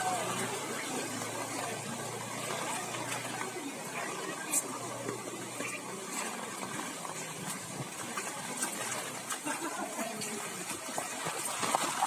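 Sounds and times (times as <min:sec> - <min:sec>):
vehicle engine humming: 0:00.0 - 0:10.7
water sounds: 0:00.0 - 0:12.0.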